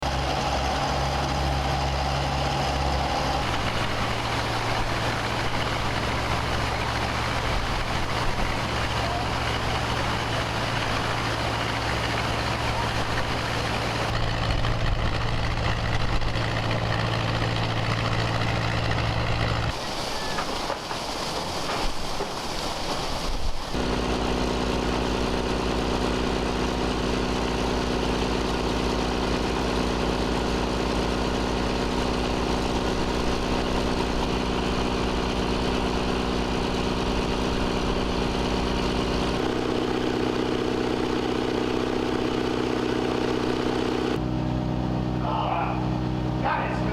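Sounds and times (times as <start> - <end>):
engine-driven pumps humming: 0.0 - 46.9.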